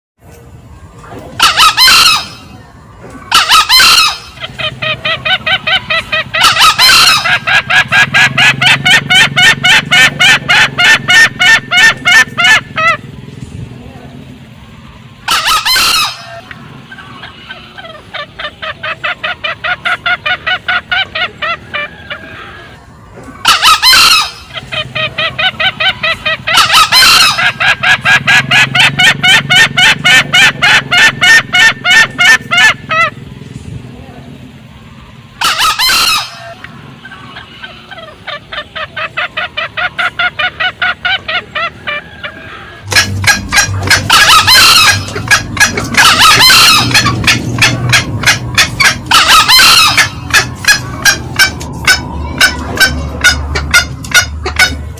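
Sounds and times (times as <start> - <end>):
hen cackling clucks: 0.3 - 33.4, 34.6 - 54.9.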